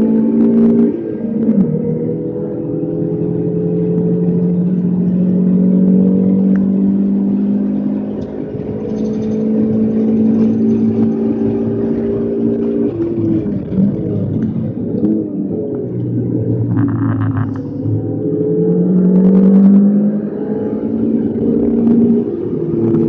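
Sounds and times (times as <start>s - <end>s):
car engine pulling under load: 0.0s - 23.0s.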